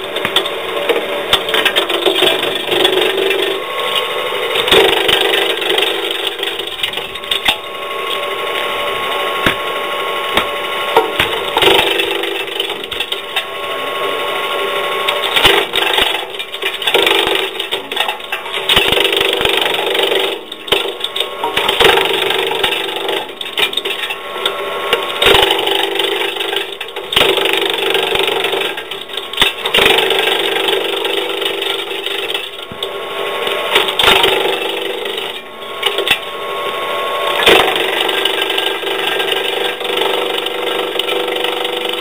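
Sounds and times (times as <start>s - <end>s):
branches splintering in chipper: 0.0s - 36.2s, 37.2s - 42.0s
chipper machine humming: 0.0s - 42.0s.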